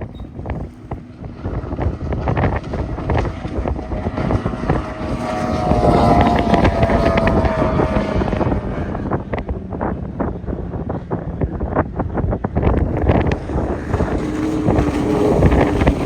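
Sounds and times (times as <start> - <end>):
boat engine running hard: 0.0 - 16.0
wind on microphone: 0.0 - 16.0.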